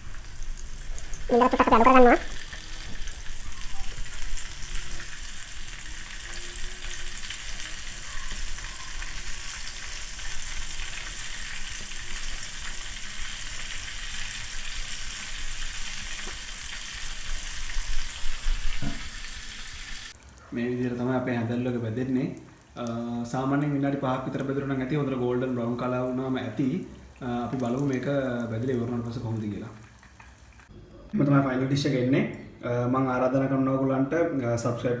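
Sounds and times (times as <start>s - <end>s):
food deep-frying in oil: 0.0s - 30.7s.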